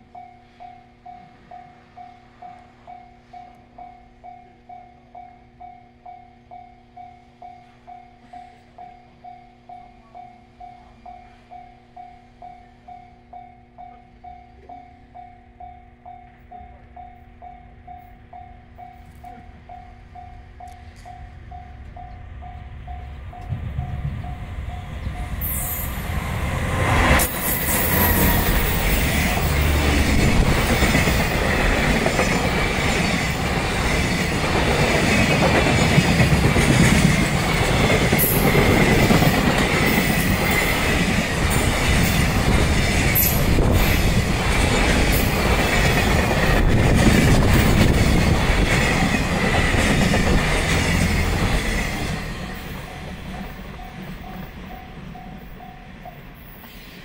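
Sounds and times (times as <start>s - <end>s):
freight train wheels on rail: 0.0s - 57.0s.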